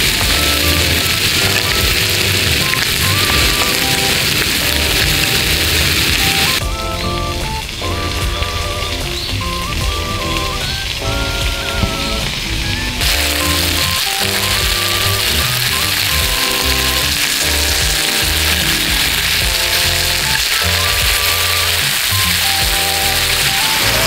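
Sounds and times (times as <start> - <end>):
background music: 0.0 - 24.0
chicken sizzling in a frying pan: 0.0 - 24.0.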